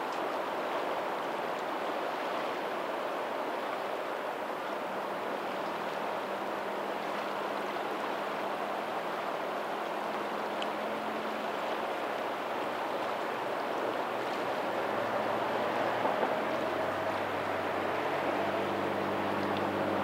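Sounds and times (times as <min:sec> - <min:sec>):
rushing water outflow: 0:00.0 - 0:20.0
waves on a pebbly shore: 0:00.0 - 0:20.0
low engine hum: 0:00.2 - 0:20.0.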